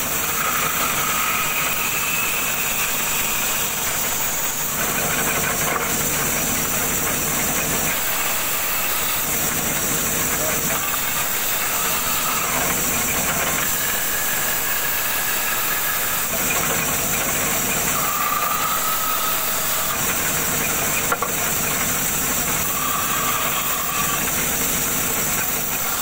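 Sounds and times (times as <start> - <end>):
bandsaw cutting wood: 0.0 - 26.0.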